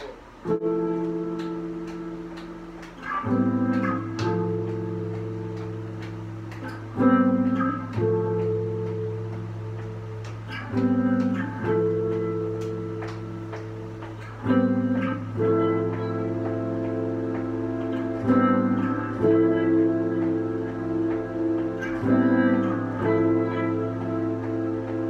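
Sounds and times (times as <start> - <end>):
guitar playing ringing chords: 0.0 - 25.0.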